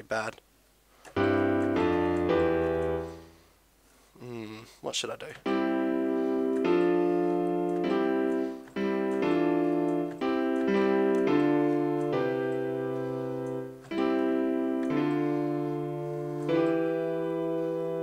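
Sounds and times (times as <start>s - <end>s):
piano chords: 1.1s - 3.5s, 5.4s - 18.0s.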